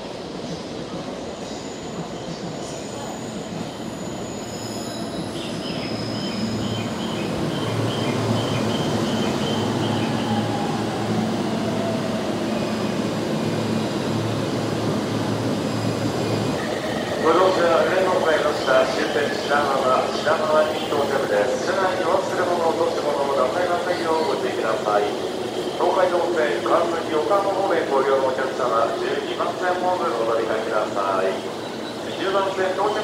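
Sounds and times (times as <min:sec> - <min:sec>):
electric train braking to a stop: 0:00.7 - 0:33.0.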